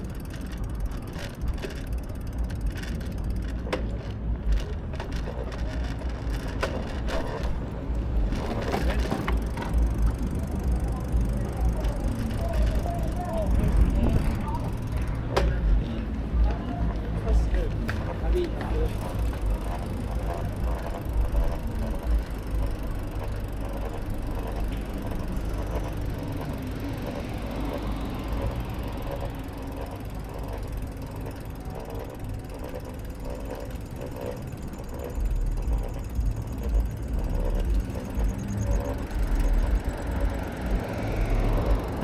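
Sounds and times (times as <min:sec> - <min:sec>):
bicycle freewheel ticking: 0:00.0 - 0:42.0
steady low rumble: 0:00.0 - 0:42.0.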